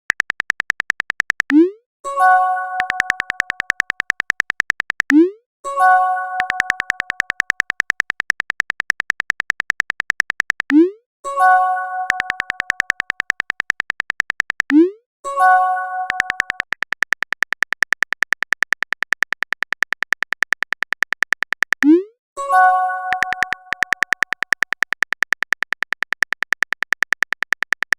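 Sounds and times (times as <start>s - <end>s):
keyboard typing clicks: 0.0s - 1.8s, 2.7s - 5.4s, 6.3s - 11.0s, 12.0s - 15.0s, 16.0s - 22.1s, 22.8s - 27.9s.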